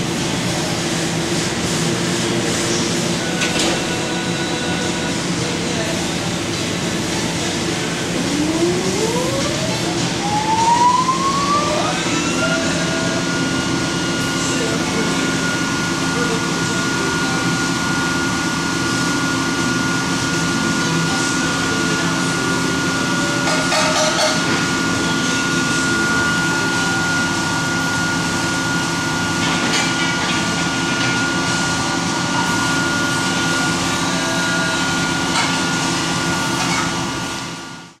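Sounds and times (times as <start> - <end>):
ventilation hiss and hum: 0.0 - 38.0.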